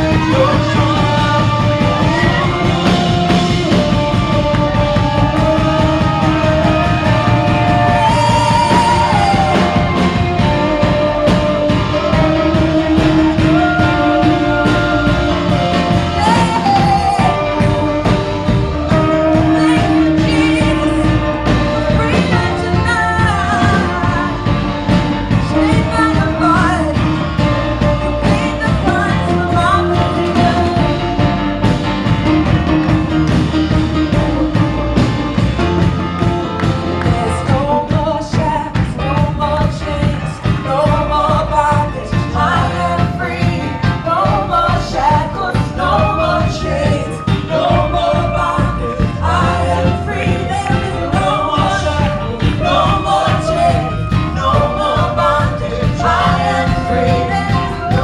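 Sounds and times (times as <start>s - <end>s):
band playing worship music: 0.0s - 58.0s
people singing: 0.0s - 58.0s.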